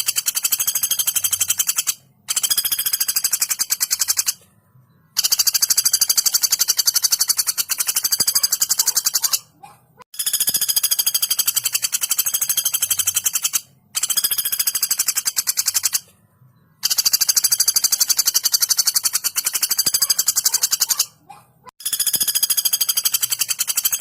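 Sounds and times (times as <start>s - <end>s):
woodpecker rattling calls: 0.0s - 4.4s, 5.1s - 16.1s, 16.8s - 24.0s.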